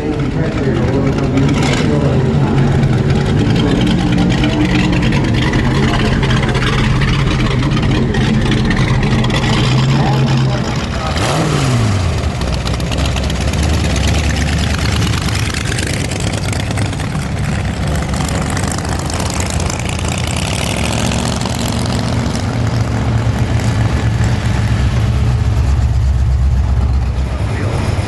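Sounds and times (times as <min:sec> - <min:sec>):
car engines running at low speed: 0:00.0 - 0:28.0.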